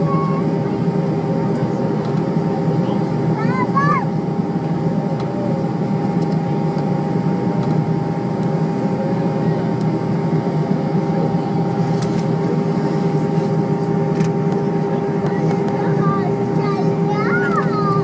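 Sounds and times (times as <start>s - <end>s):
jet engines humming at low power: 0.0s - 18.0s.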